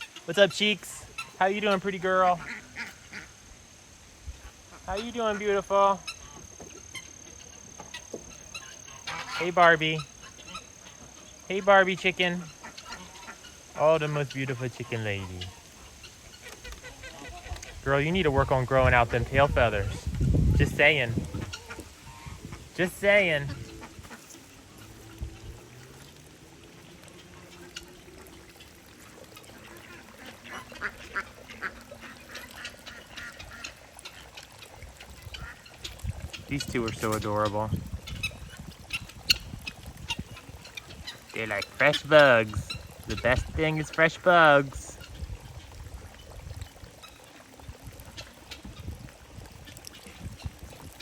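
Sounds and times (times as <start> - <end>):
ducks quacking: 0.0 - 3.4, 4.4 - 45.8
faint water trickling: 0.0 - 51.0.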